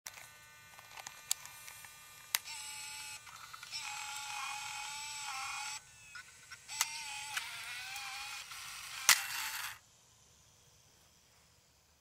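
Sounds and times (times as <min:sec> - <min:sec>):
servo motor whining: 0:00.1 - 0:09.8
small mechanical clicks: 0:00.1 - 0:09.8.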